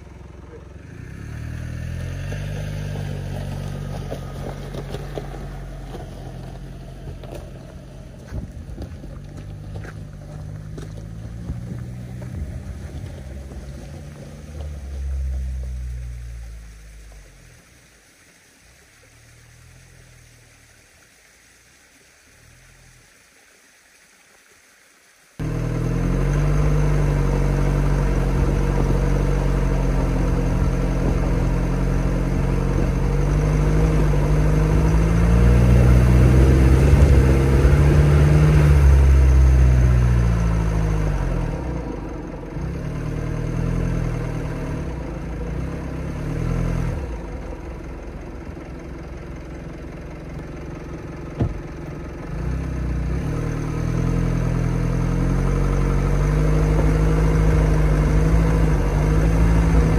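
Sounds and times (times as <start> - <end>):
diesel engine under load: 0.0 - 18.2, 25.4 - 59.9.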